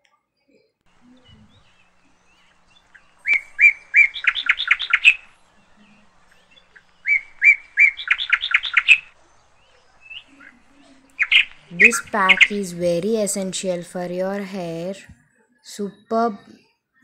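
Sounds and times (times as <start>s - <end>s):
bird singing chirps: 0.9s - 14.8s.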